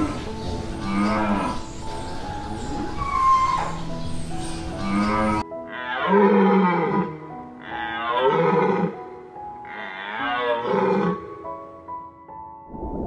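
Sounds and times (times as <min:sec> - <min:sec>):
drawn-out animal calls: 0:00.0 - 0:04.0, 0:04.7 - 0:11.2
gentle background music: 0:00.0 - 0:13.0.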